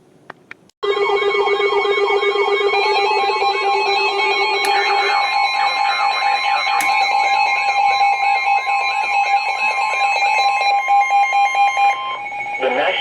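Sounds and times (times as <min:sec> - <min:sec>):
steady high alert tones: 0:00.8 - 0:13.0
warbling alert tone: 0:01.0 - 0:12.4.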